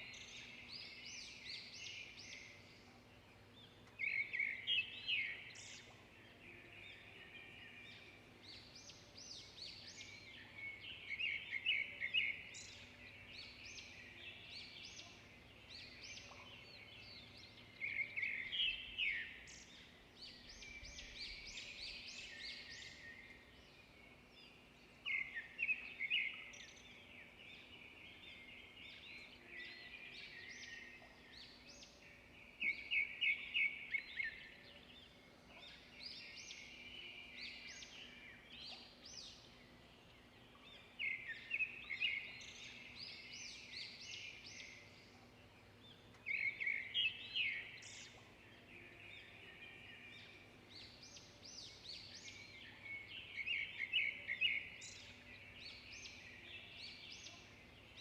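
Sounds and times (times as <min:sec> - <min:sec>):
songbirds singing and chirping: 0:00.0 - 0:58.0.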